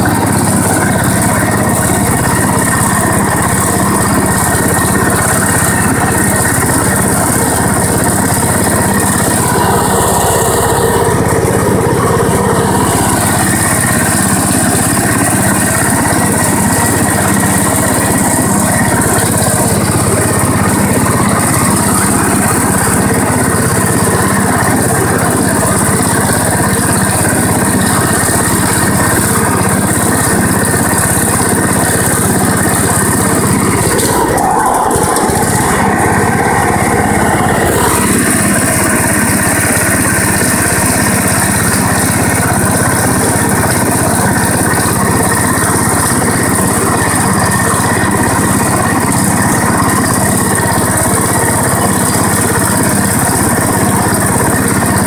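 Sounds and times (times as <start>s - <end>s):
ride-on mower running: 0.0s - 55.0s.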